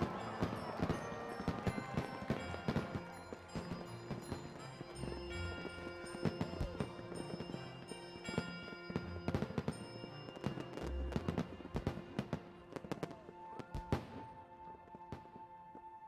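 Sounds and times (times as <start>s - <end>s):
fireworks bangs and crackles: 0.0s - 15.9s
background music: 0.0s - 16.0s.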